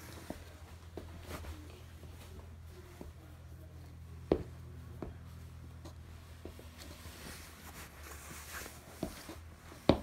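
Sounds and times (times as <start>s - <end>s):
low steady hum: 0.0s - 10.0s
soft footsteps on floor: 0.0s - 10.0s.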